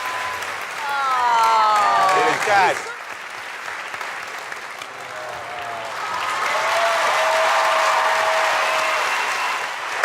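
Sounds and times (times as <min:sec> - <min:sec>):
audience cheering: 0:00.0 - 0:03.0, 0:04.8 - 0:10.0
audience applauding: 0:00.0 - 0:10.0.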